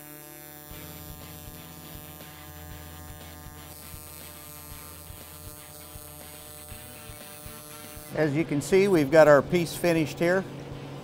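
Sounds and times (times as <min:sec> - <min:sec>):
welding arc buzzing and crackling: 0:00.0 - 0:10.3.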